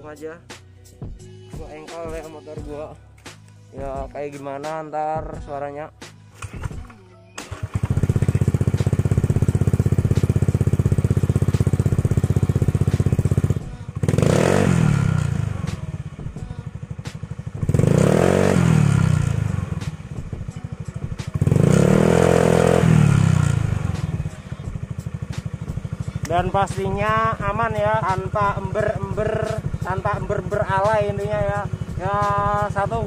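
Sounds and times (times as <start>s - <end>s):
scooter engine revving and idling: 6.4s - 33.0s.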